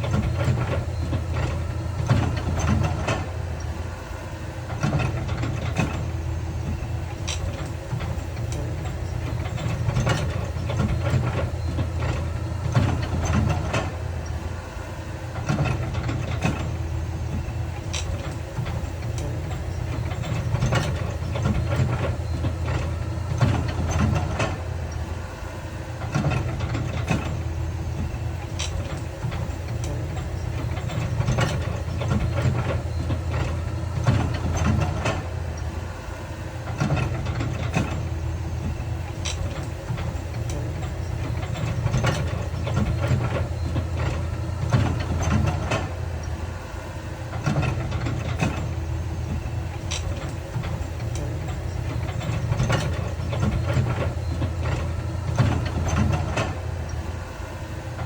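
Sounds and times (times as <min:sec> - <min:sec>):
diesel engine running: 0:00.0 - 0:58.0
machinery clanks and knocks: 0:00.0 - 0:58.0.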